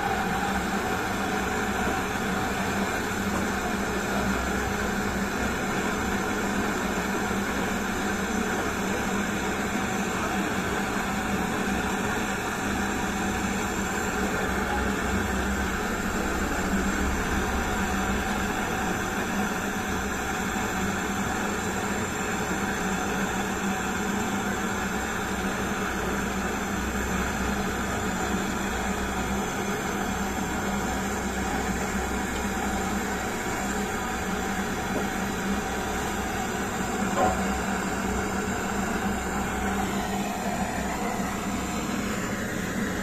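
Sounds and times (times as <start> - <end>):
blowtorch flame hissing: 0.0 - 43.0
steady low hum: 0.0 - 43.0.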